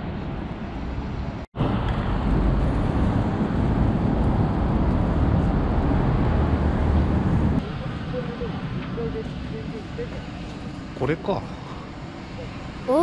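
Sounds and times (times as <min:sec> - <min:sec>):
road traffic rumble: 0:00.0 - 0:13.0
wind: 0:00.0 - 0:13.0.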